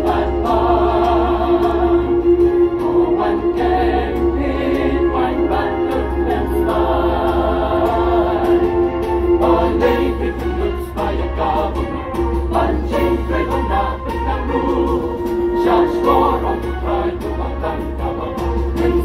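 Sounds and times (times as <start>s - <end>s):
mixed choir singing in harmony: 0.0s - 19.0s.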